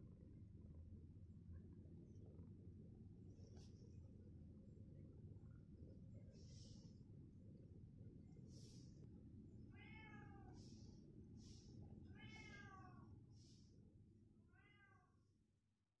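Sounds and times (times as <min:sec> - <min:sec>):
low steady rumble: 0:00.0 - 0:14.8.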